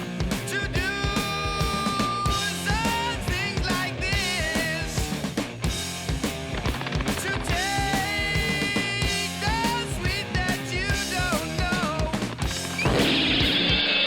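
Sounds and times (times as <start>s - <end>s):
drum kit beating: 0.0s - 13.9s
rock music: 0.0s - 14.0s.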